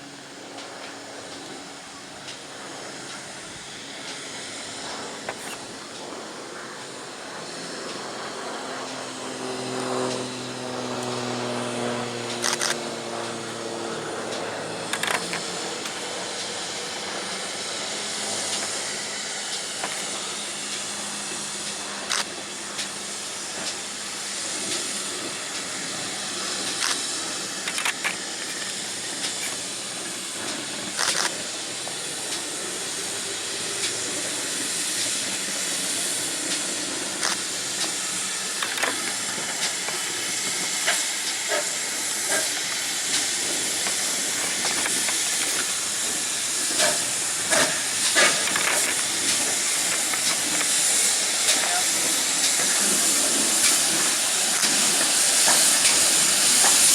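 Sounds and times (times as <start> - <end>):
steam locomotive hissing: 0.0 - 56.9.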